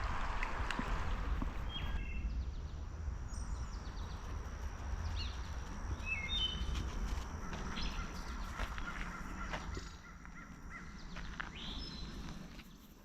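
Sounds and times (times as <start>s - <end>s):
low rumble: 0.0s - 12.7s.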